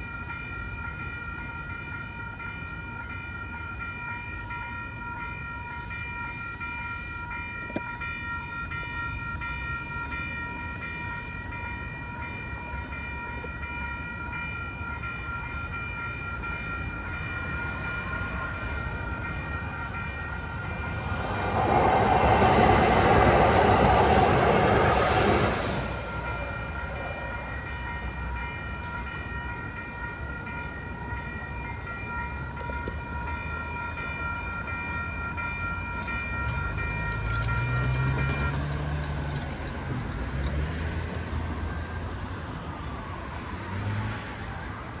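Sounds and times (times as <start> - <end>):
electronic crossing bell ringing: 0.0 - 39.4
light-rail train rushing past: 0.0 - 45.0.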